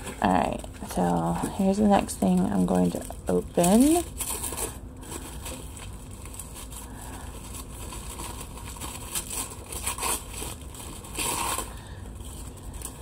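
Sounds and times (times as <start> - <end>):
packaging rustling and crinkling: 0.0 - 13.0
steady low hum: 0.0 - 13.0.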